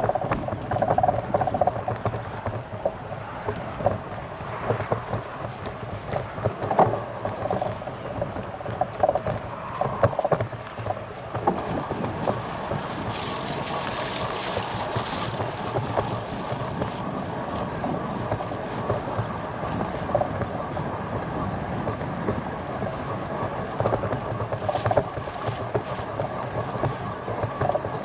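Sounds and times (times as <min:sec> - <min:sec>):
bicycle clicks and rattles: 0:00.0 - 0:28.0
bicycle road noise: 0:00.0 - 0:28.0.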